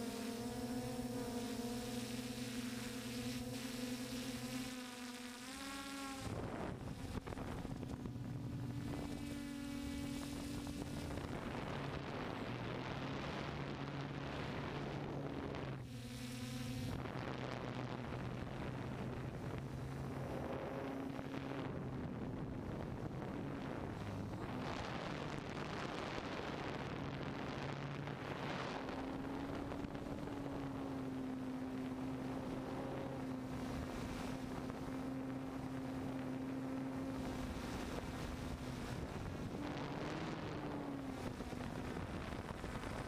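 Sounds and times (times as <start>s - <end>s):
drone motors buzzing: 0.0s - 43.0s
wind noise: 6.1s - 43.0s.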